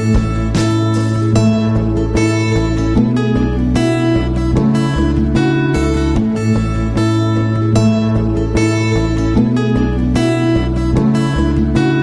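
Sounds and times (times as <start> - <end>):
steady bass: 0.0 - 12.0
strummed acoustic guitar: 0.0 - 12.0.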